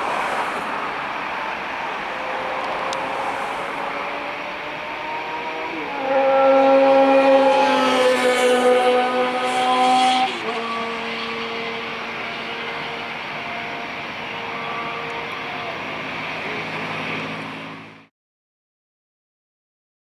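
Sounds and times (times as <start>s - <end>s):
jet engines droning: 0.0s - 18.1s.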